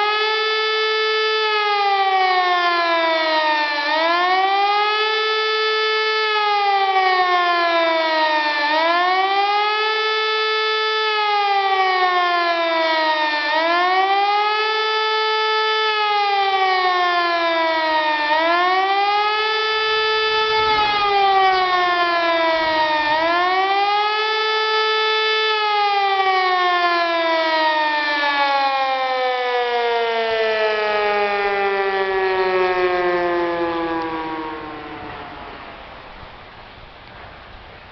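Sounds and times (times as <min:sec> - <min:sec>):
wailing warning siren: 0:00.0 - 0:37.9.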